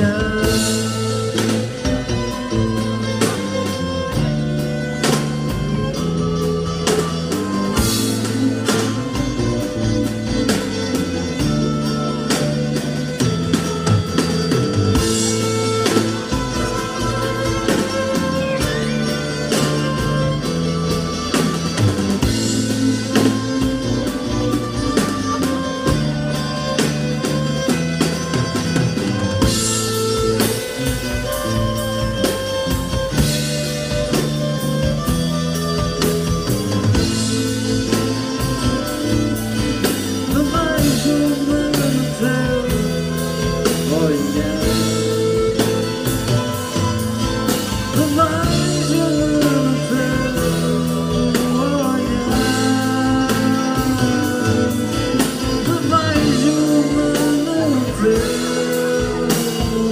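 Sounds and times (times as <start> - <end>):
bass: 0.0 - 59.9
drum kit beat: 0.0 - 59.9
electric guitar: 0.0 - 59.9
violin: 0.0 - 59.9.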